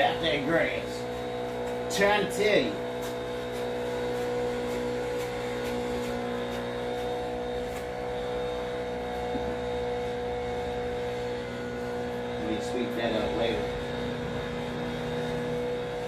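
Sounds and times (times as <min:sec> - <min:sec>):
lawn mower engine droning: 0:00.0 - 0:16.0.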